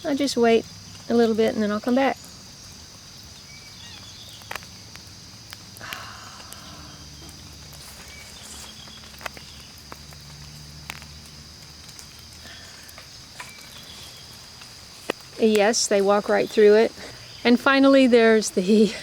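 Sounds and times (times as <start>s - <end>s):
high insect chorus: 0.0s - 19.0s.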